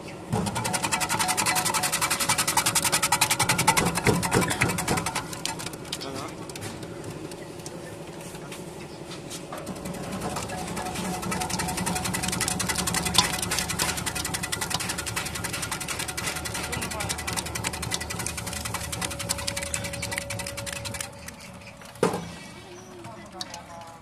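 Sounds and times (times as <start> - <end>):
vegetable cutting machine running: 0.2 - 24.0.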